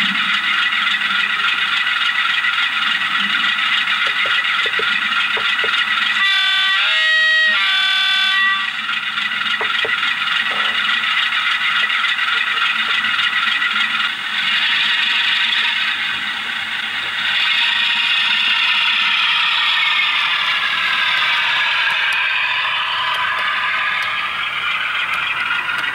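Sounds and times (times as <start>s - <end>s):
model locomotive engine sound: 0.0s - 25.9s.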